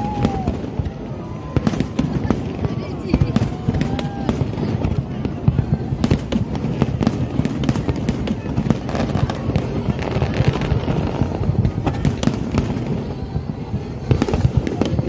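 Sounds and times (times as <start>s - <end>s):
fireworks booming and cracking: 0.0s - 15.0s.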